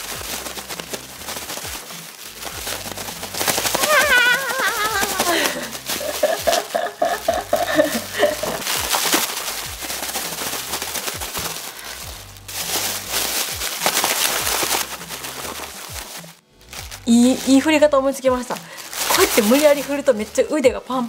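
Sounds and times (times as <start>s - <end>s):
plastic bag crinkling while shaken: 0.0s - 21.0s.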